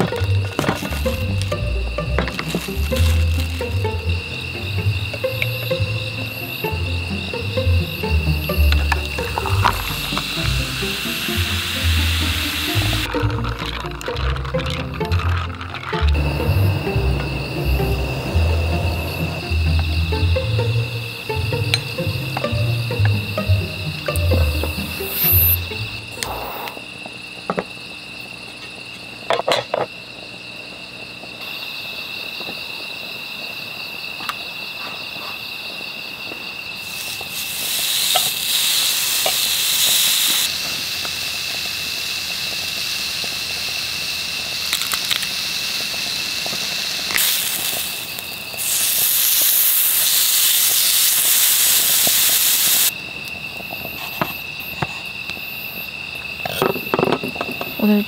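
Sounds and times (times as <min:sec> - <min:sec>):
loud cooking hiss: 0:00.0 - 0:53.1
crickets trilling: 0:00.0 - 0:58.0.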